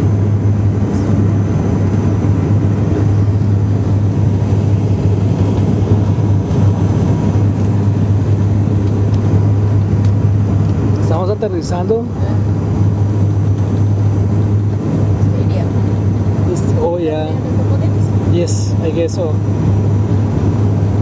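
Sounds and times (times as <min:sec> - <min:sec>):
engine and airflow roar: 0:00.0 - 0:21.0
propeller drone: 0:00.0 - 0:21.0.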